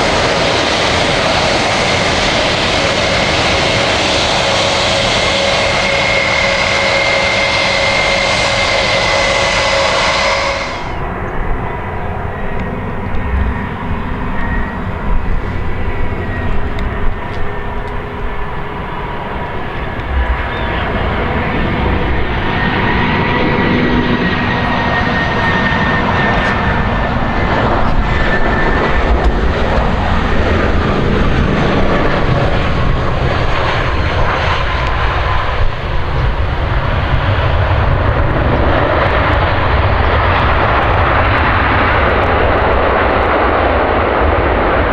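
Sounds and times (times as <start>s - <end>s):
airliner arriving: 0.0s - 44.9s
jet engines whining: 0.0s - 44.9s.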